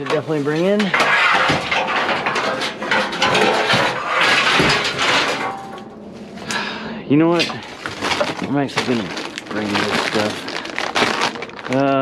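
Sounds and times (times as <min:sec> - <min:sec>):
scrap metal clattering: 0:00.0 - 0:11.9.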